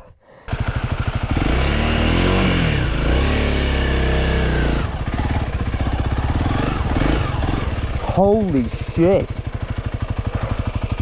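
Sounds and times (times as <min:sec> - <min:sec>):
dirt bike engine revving: 0:00.5 - 0:11.0.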